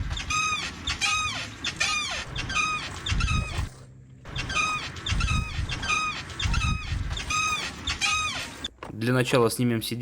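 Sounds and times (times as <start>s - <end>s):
motorcycle suspension squeaking: 0.0s - 8.8s.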